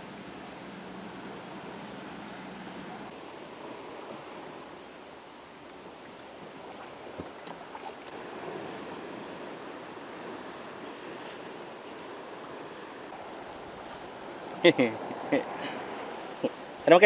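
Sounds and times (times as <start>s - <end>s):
water lapping around kayak: 0.0s - 17.0s.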